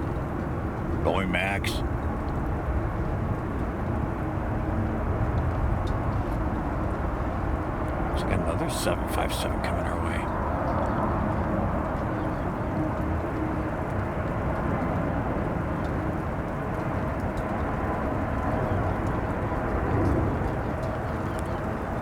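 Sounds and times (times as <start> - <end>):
rain: 0.0 - 22.0
wind rumbling on microphone: 0.0 - 22.0.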